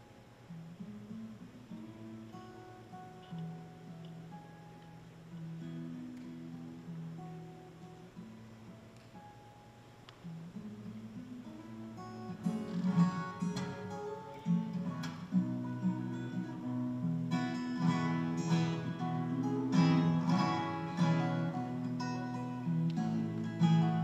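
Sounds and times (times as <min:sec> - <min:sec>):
fingerstyle acoustic guitar: 0:00.0 - 0:24.0.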